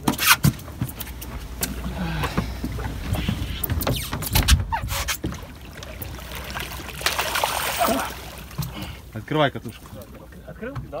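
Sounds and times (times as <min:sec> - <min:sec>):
boat engine low rumble: 0:00.0 - 0:11.0
water noise: 0:00.0 - 0:11.0.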